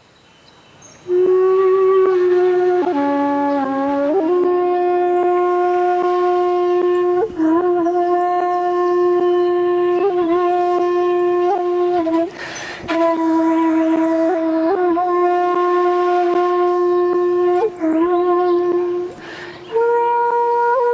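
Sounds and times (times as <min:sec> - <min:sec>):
bamboo flute playing held notes: 0:01.1 - 0:20.9.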